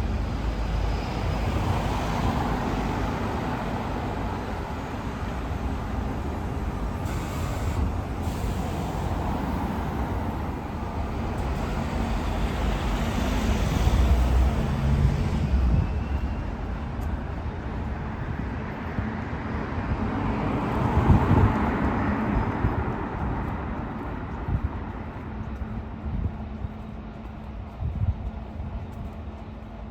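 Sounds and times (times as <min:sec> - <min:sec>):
vehicles passing close by: 0:00.0 - 0:26.3
street traffic rumble: 0:00.0 - 0:29.9.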